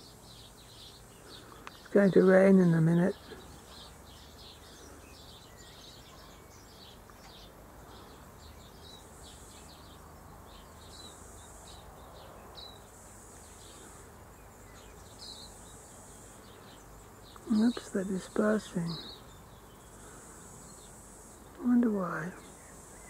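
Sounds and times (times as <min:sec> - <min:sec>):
faint high hiss: 0:00.0 - 0:23.0
sparrows chirping: 0:00.0 - 0:23.0.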